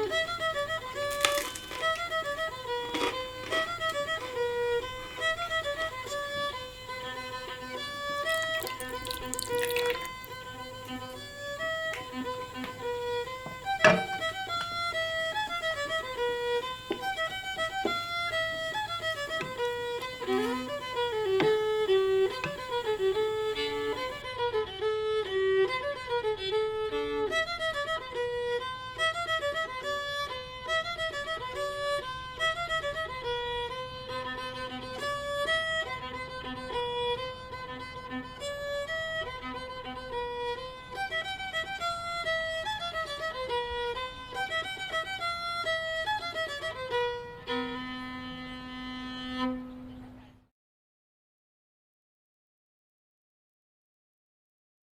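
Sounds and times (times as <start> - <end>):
fiddle playing lively melody: 0.0 - 49.7.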